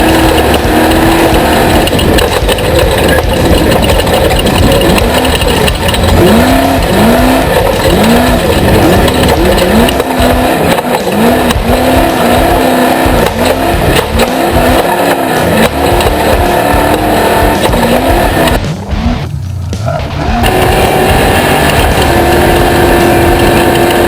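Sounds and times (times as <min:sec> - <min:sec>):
engine revving hard: 0:00.0 - 0:24.0
tyre noise: 0:00.0 - 0:24.0.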